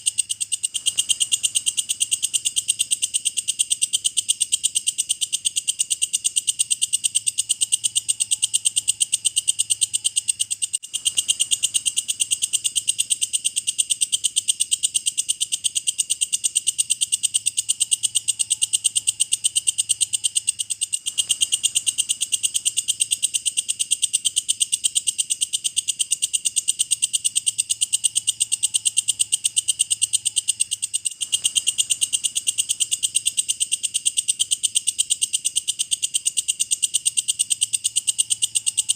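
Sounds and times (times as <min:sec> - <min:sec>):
katydid chirping: 0:00.0 - 0:38.9.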